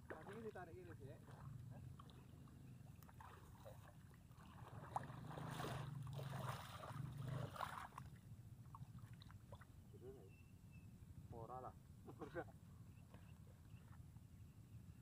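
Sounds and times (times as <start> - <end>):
water sloshing from wading: 0.0 - 10.3, 12.0 - 14.8.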